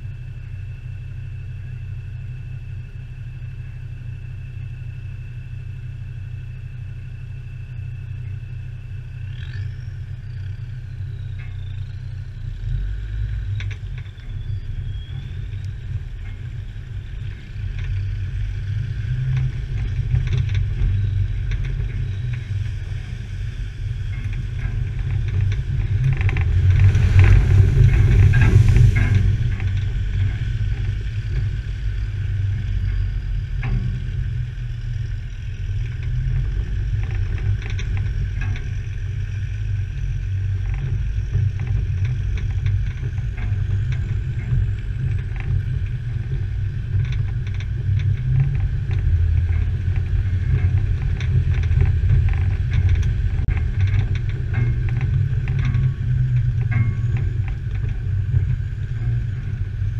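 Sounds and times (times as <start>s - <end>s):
low engine rumble: 0.0s - 59.9s.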